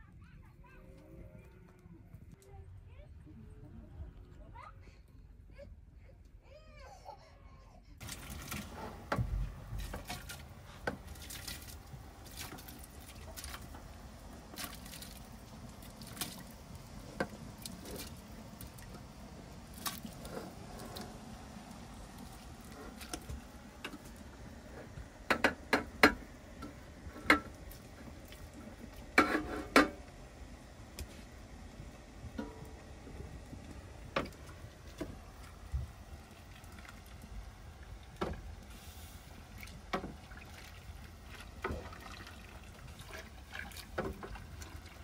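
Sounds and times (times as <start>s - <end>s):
low steady background noise: 0.0s - 45.0s.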